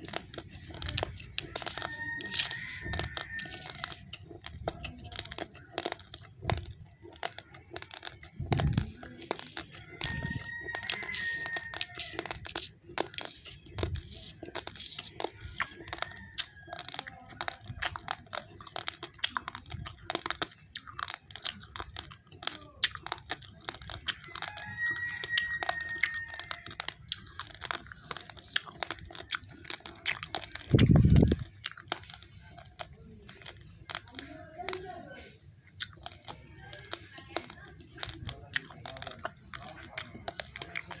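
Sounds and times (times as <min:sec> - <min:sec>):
crunching of chewed rice: 0:00.0 - 0:41.0.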